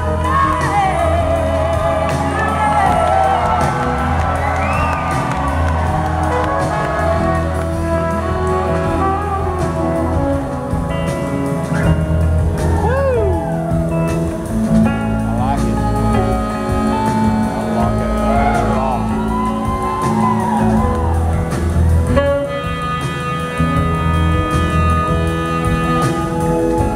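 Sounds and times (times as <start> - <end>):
live band playing: 0.0 - 26.9.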